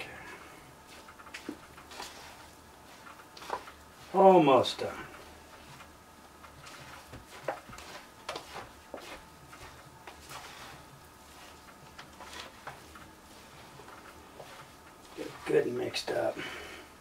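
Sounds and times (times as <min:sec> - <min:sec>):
utensil scraping a plastic tub: 0:00.0 - 0:05.0, 0:06.5 - 0:16.4.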